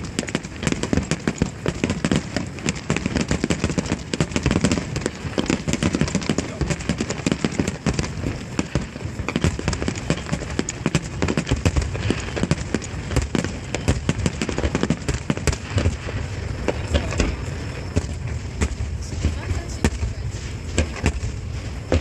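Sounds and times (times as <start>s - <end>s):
fireworks bursting: 0.0s - 22.0s
low rumble: 0.0s - 22.0s.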